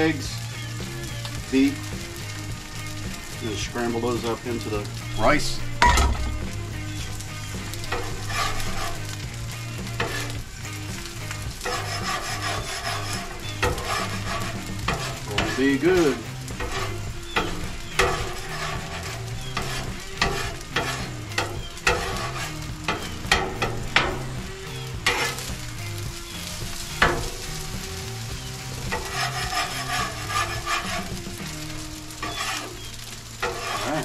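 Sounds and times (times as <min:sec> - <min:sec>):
eggs and rice sizzling on griddle: 0:00.0 - 0:34.0
metal spatula scraping on steel: 0:02.9 - 0:34.0.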